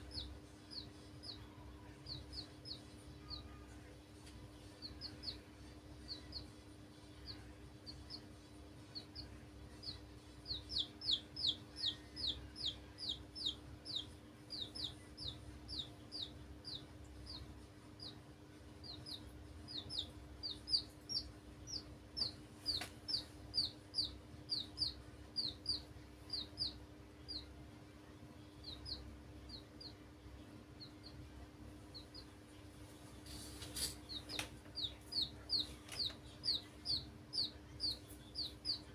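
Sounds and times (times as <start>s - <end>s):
baby chicks peeping: 0.0s - 38.9s
faint steady hum: 0.0s - 38.9s.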